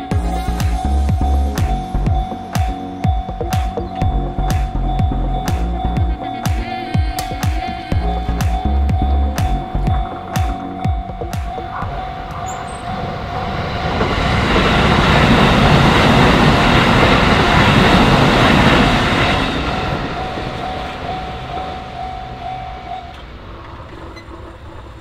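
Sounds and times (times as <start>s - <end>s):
crossing warning bell ringing: 0.0s - 25.0s
electric train passing: 0.0s - 25.0s.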